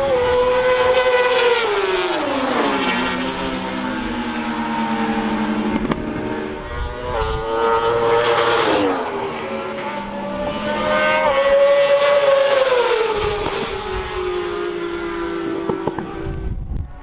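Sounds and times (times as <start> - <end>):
racing motorcycles passing: 0.0 - 16.7.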